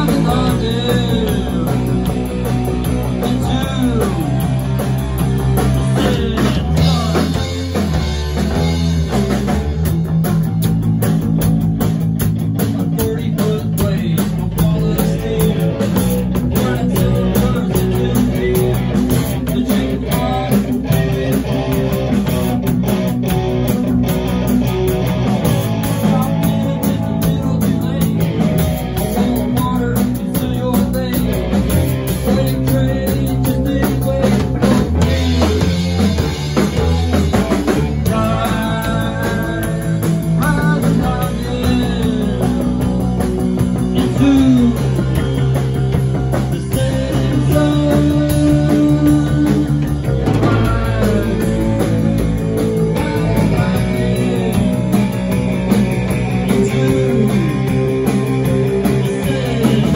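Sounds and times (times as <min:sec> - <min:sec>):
lead guitar line: 0:00.0 - 0:59.9
rock band playing live: 0:00.0 - 0:59.9.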